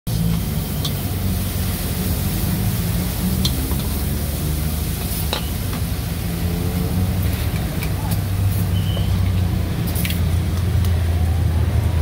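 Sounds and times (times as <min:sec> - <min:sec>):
aromatics sizzling in hot oil: 0:00.1 - 0:12.0.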